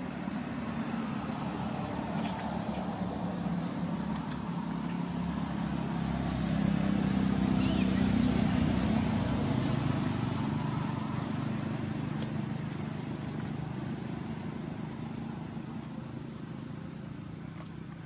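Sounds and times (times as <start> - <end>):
distant motor vehicle engine hum: 0.0 - 18.0.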